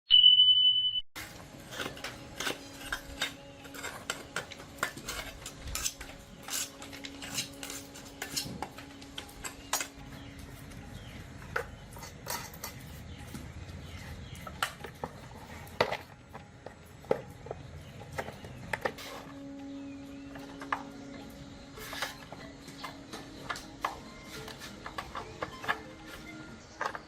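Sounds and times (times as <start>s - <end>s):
metal parts and tools clinking: 1.2s - 19.6s, 20.3s - 27.0s.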